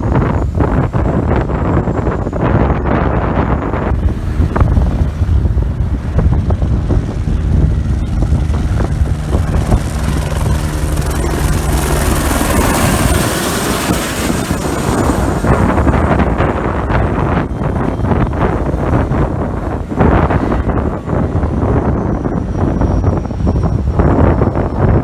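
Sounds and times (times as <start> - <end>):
aircraft engine humming: 0.0 - 25.0
wind buffeting microphone: 0.0 - 25.0.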